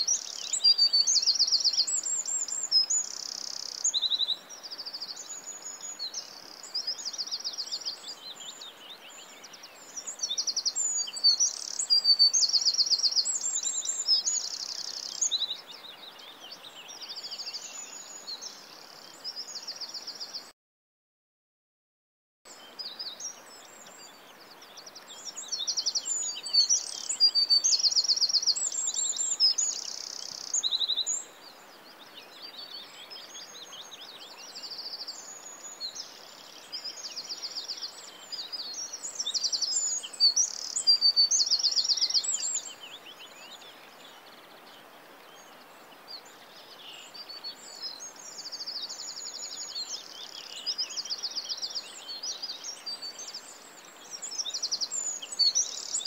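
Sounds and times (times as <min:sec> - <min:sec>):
faint hiss: 0:00.0 - 0:20.5, 0:22.5 - 0:56.0
small birds chirping and trilling: 0:00.0 - 0:20.5, 0:22.5 - 0:56.0.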